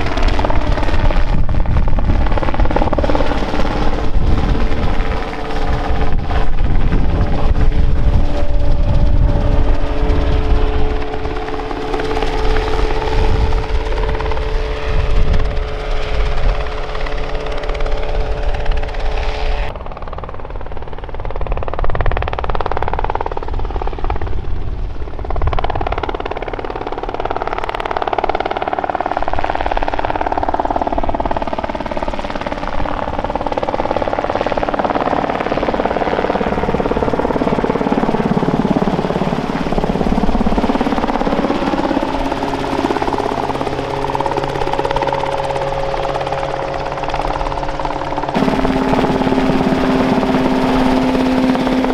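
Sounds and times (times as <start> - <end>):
helicopter rotor beat: 0.0 - 51.9
model helicopter engine drone: 0.0 - 51.9.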